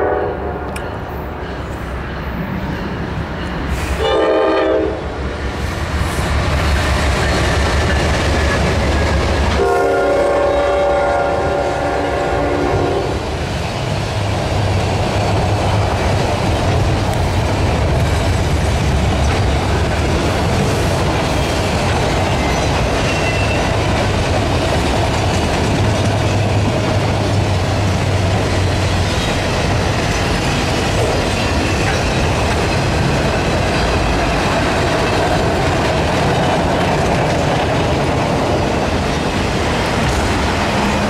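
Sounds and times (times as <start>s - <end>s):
freight train wheels rumbling on rails: 0.0s - 41.0s.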